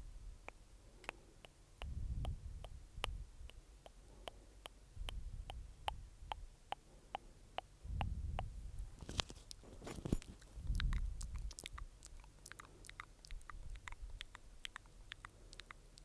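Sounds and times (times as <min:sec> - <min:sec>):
wet mouth and tongue clicks: 0:00.4 - 0:08.5, 0:10.2 - 0:16.0.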